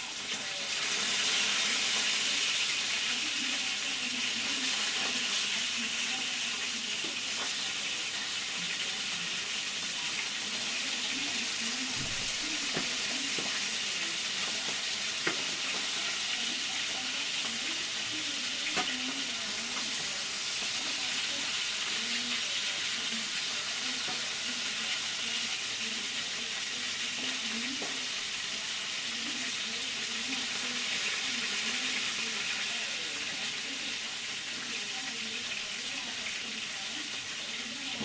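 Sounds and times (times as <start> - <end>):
vegetables sizzling in a pan: 0.0 - 38.0.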